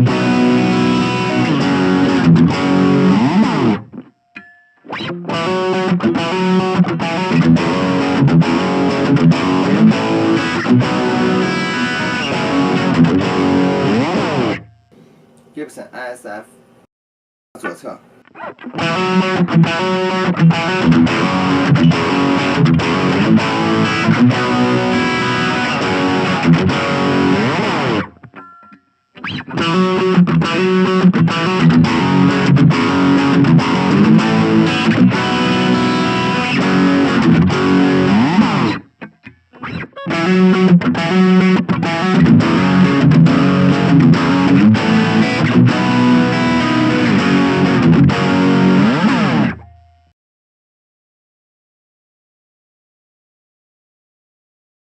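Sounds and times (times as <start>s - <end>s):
distorted electric guitar riffing: 0.0s - 4.1s, 4.9s - 15.2s, 17.6s - 28.4s, 29.2s - 49.6s.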